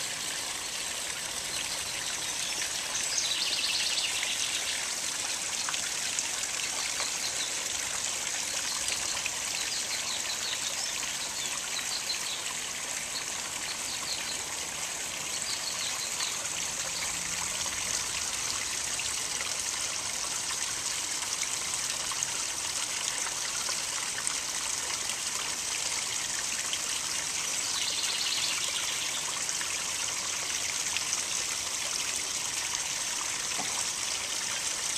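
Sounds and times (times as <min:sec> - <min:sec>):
small waterfall splashing into pond: 0:00.0 - 0:34.9.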